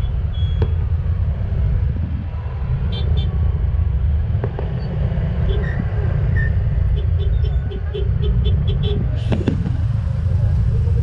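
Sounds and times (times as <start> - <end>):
vehicle road rumble: 0.0 - 11.0.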